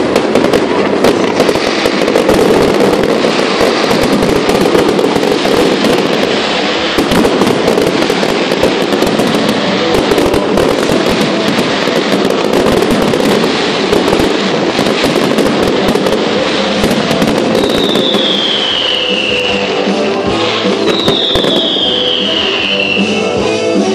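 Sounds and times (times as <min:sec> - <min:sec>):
falling firework whistle: 0:00.0 - 0:23.9
fireworks crackling and popping: 0:00.0 - 0:23.9.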